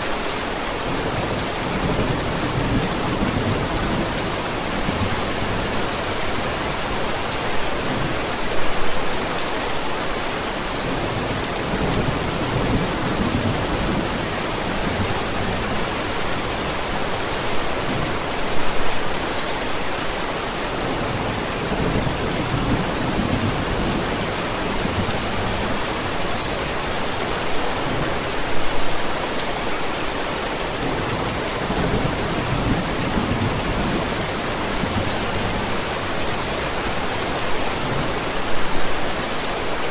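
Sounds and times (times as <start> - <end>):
hiss of rain: 0.0 - 39.9.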